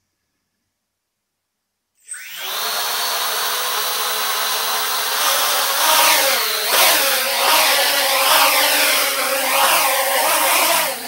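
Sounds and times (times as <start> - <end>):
quadcopter motors whining: 2.0 - 11.0.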